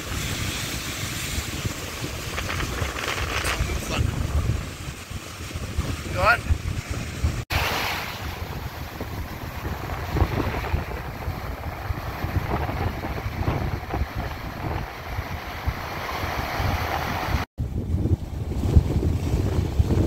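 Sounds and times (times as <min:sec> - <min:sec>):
surf washing among rocks: 0:00.0 - 0:20.0
wind buffeting microphone: 0:00.0 - 0:20.0.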